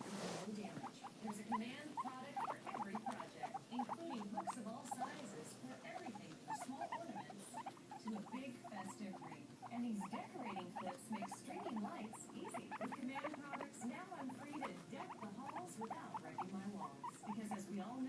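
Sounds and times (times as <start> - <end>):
guinea pigs squeaking: 0.0 - 18.0.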